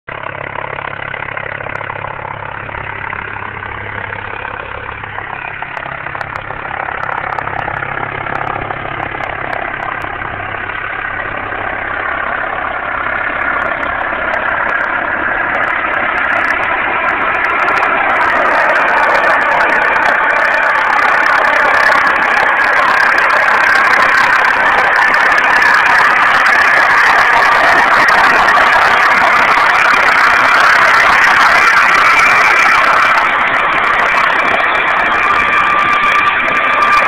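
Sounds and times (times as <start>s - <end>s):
helicopter engine and rotor: 0.1s - 37.0s.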